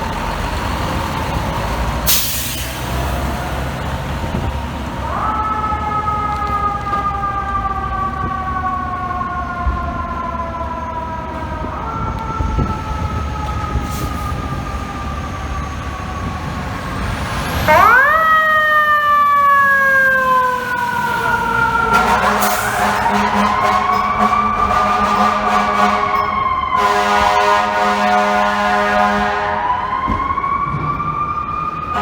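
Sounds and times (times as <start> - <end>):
fire truck siren wailing: 0.0 - 32.0
low truck engine rumble: 0.0 - 32.0.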